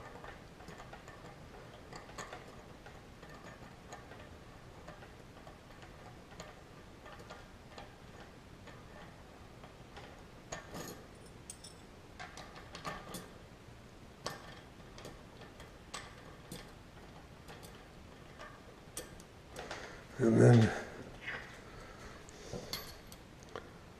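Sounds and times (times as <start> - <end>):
metal bicycle cogs clinking: 0.0 - 13.4, 14.2 - 20.8, 22.5 - 23.2.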